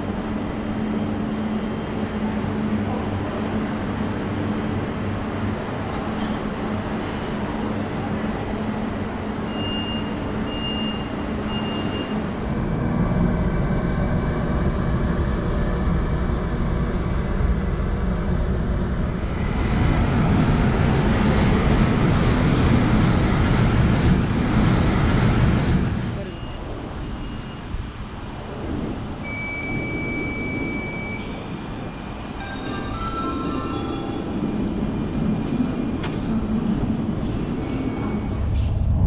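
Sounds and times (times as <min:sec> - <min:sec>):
freight locomotive rumbling: 0:00.0 - 0:39.0
station platform ambience: 0:00.0 - 0:39.0.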